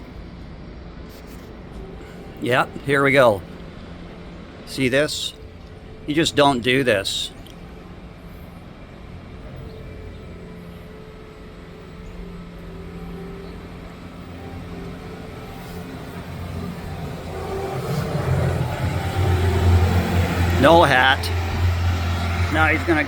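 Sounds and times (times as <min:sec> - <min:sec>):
skid steer diesel engine running: 0:01.5 - 0:23.0.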